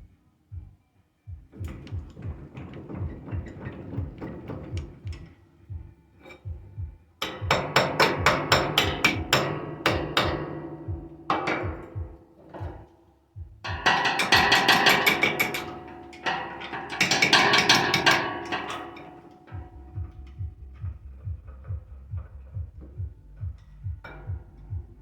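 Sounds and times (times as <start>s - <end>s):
hammering on steel: 1.5s - 25.0s.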